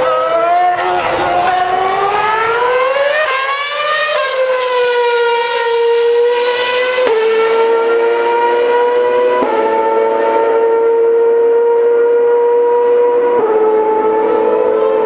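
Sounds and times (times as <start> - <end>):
race car engine screaming: 0.0 - 15.0.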